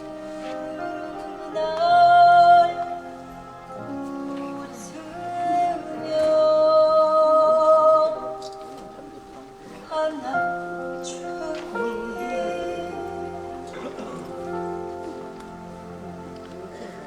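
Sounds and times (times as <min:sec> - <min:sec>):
person singing long notes: 0:00.0 - 0:08.8, 0:09.8 - 0:17.0
instrumental accompaniment: 0:00.0 - 0:17.0.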